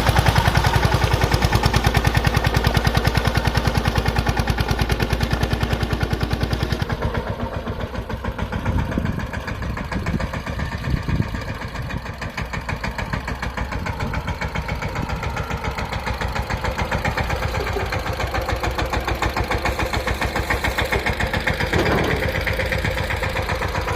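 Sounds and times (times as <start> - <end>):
tractor diesel engine chugging: 0.0 - 23.9.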